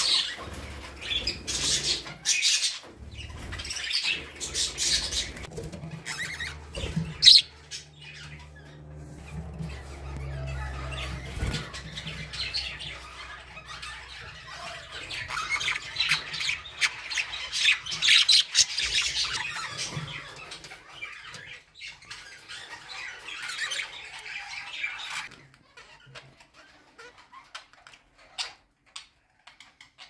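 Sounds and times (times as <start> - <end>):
budgerigars chattering: 0.0 - 26.2.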